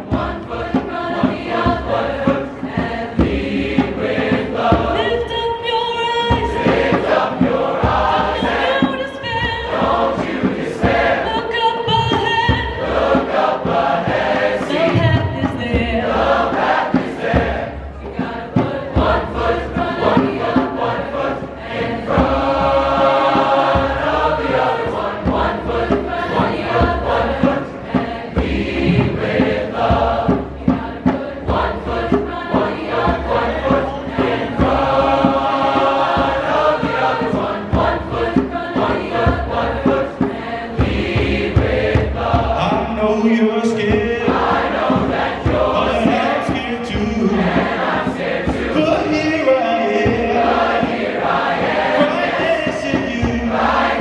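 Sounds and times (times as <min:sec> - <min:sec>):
mixed choir singing in harmony: 0:00.0 - 0:54.0.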